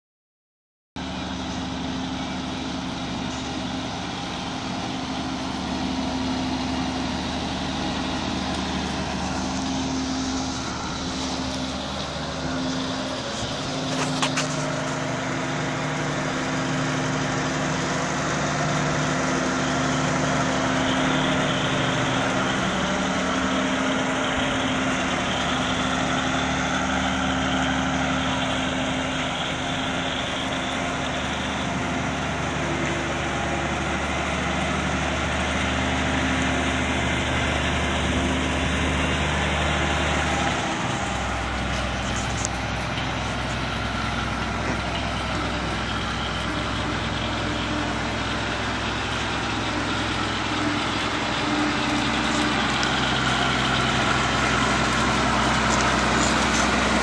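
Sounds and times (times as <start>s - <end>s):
combine harvester engine running: 1.0s - 57.0s.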